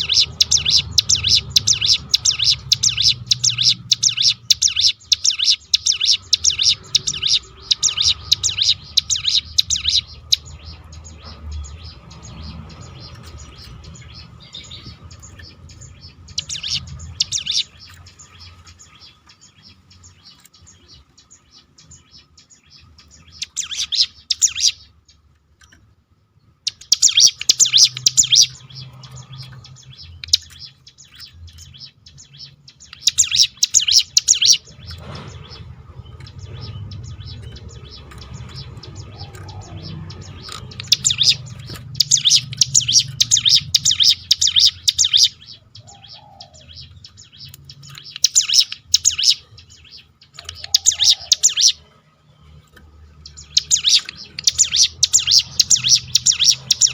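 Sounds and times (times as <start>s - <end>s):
bird rapid chattering song: 0.0s - 56.9s.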